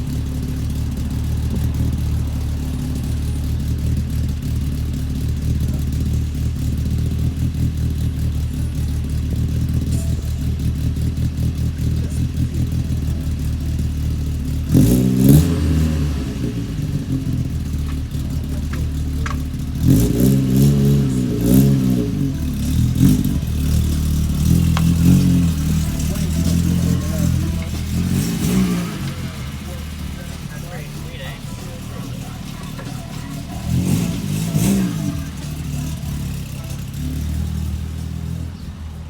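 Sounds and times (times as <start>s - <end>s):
car engine idling and revving: 0.0s - 39.0s.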